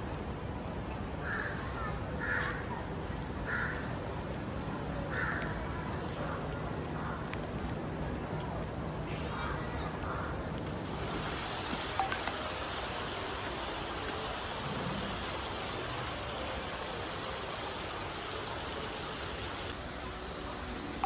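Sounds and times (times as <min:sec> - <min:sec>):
steady rushing background noise: 0:00.0 - 0:21.0.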